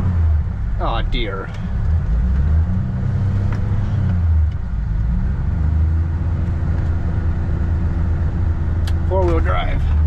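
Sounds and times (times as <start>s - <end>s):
vehicle engine running under load: 0.0s - 10.0s.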